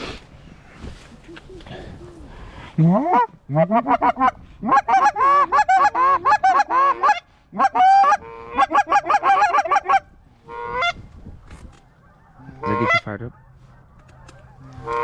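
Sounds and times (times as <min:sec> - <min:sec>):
geese honking and clucking: 0:01.3 - 0:15.0.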